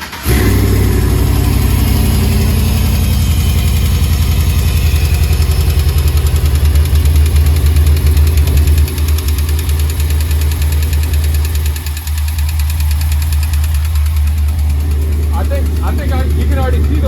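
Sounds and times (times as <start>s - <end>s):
engine running with rapid knock: 0.0s - 17.0s.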